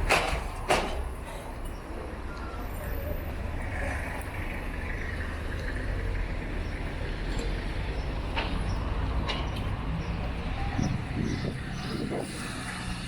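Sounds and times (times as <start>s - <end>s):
vehicle passing rumble: 0.0s - 13.0s.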